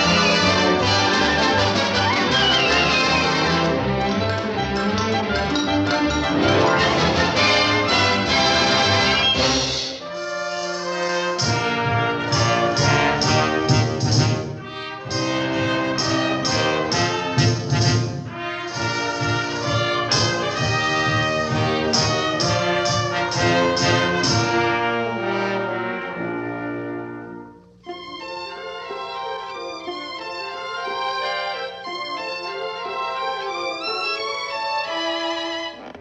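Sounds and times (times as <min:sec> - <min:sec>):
orchestral cartoon music: 0:00.0 - 0:36.0.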